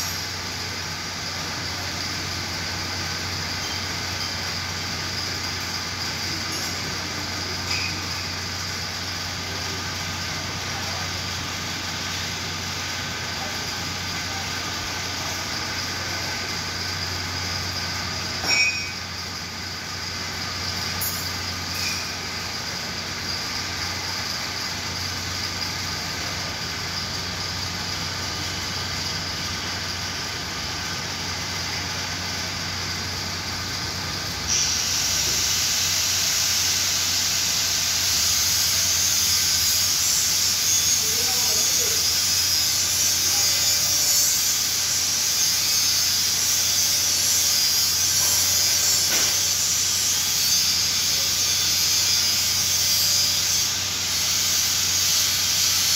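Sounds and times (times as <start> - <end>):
high hiss: 0.0 - 55.9
mechanical hum and hiss: 0.0 - 55.9.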